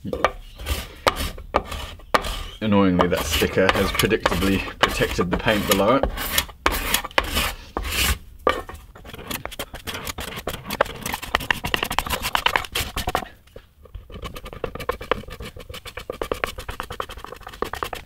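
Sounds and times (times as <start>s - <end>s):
scratches and clicks: 0.0s - 18.0s
paint scraper scraping wood: 0.1s - 18.0s.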